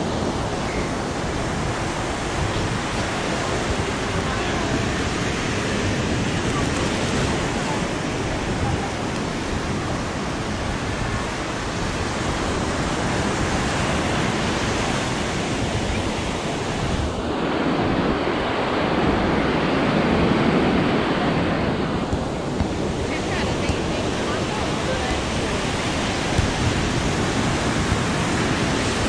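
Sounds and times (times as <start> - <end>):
ocean surf: 0.0 - 29.0
wind on microphone: 0.0 - 29.0.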